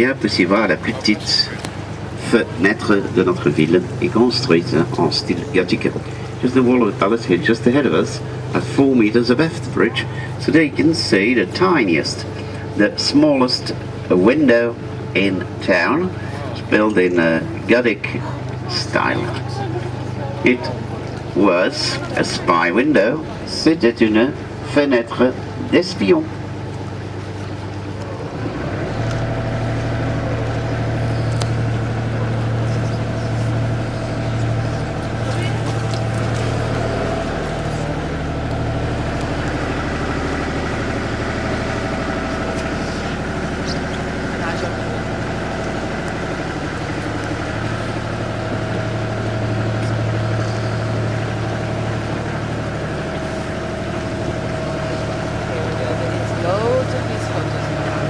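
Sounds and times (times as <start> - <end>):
boat motor humming: 0.0 - 58.0.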